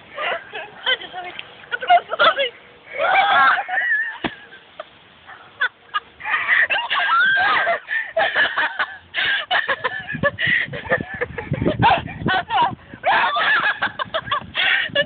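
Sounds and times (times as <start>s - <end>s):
girls laughing: 0.0s - 15.0s.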